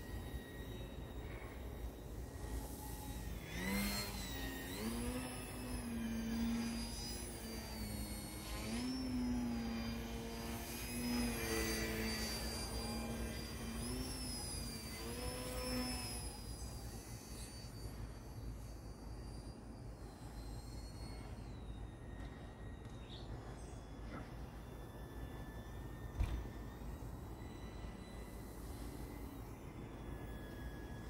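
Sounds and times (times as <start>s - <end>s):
electric motor and propeller whining: 0.0s - 31.0s.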